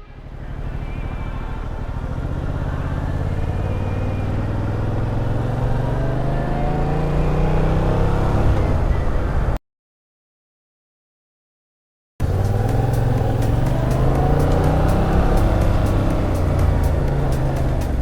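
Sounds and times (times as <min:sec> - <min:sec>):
motorcycle engine accelerating: 0:00.0 - 0:09.6, 0:12.2 - 0:18.0.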